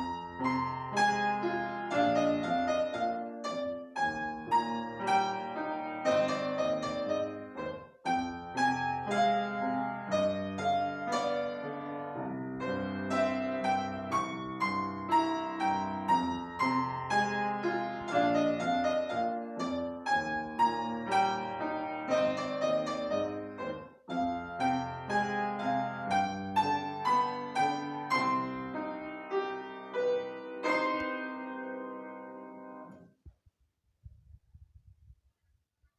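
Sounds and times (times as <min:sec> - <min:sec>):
piano duet: 0:00.0 - 0:33.1.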